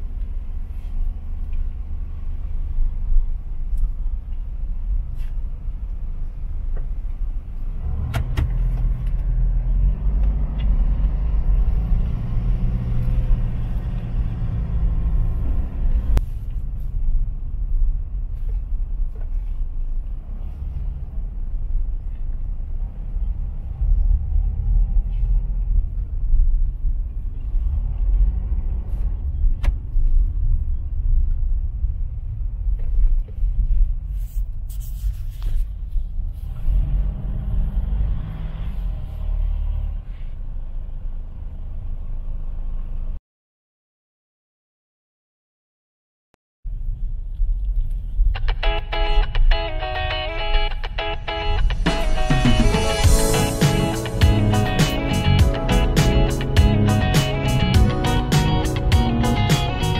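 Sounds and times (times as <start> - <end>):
car engine and road rumble: 0.0 - 43.2, 46.7 - 59.9.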